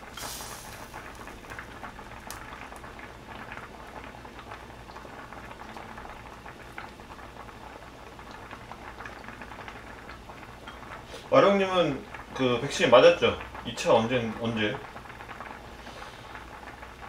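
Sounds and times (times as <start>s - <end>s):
stew bubbling in a pot: 0.0s - 17.0s.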